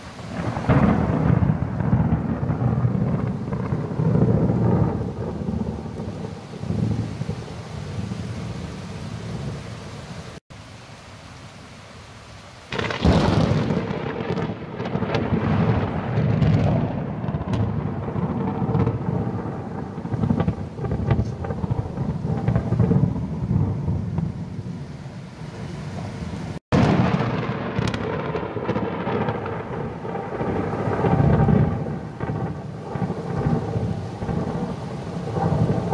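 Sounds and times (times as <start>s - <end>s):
rolling thunder: 0.0s - 9.6s, 12.7s - 24.7s, 26.7s - 35.9s
falling rain: 0.0s - 35.9s.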